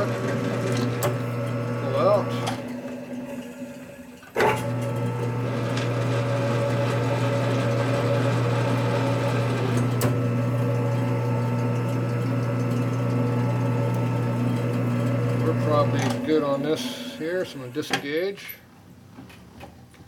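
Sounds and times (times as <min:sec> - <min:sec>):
metal lathe running: 0:00.0 - 0:18.0.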